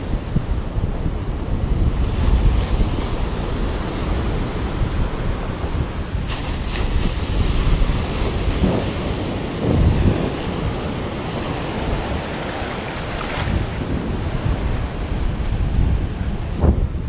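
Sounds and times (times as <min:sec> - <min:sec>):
ocean surf on beach: 0:00.0 - 0:17.0
wind buffeting microphone: 0:00.0 - 0:17.0.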